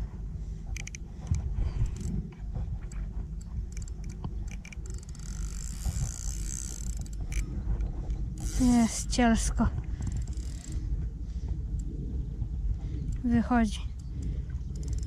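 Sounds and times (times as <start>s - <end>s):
low rumble: 0.0s - 15.0s
fishing reel ticking: 0.6s - 11.0s, 13.0s - 15.0s.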